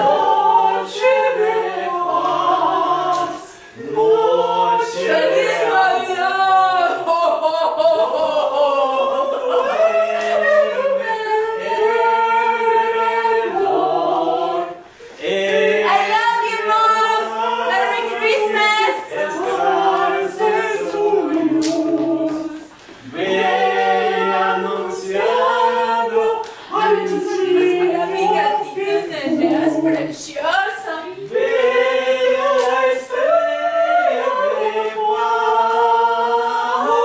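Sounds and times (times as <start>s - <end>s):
group singing unaccompanied: 0.0s - 37.0s.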